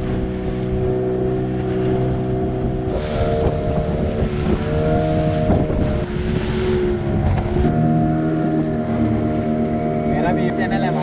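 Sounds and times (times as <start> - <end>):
boat engine running: 0.0 - 11.0
water against hull: 0.0 - 11.0
wind: 0.0 - 11.0.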